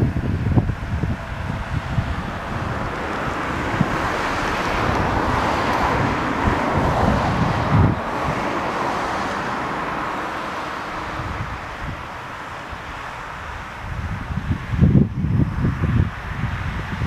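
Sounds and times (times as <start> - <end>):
steady rushing noise: 0.0 - 17.0
wind buffeting microphone: 0.0 - 17.0.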